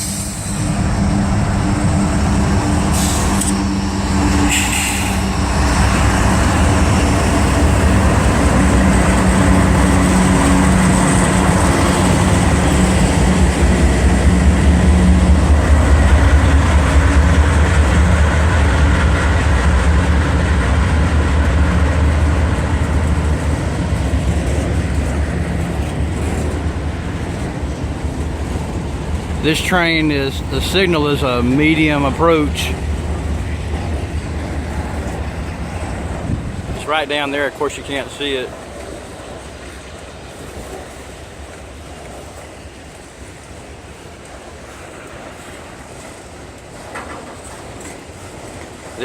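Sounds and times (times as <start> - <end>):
locomotive engine drone: 0.0 - 49.0
wheel and rail rumbling: 0.0 - 49.0.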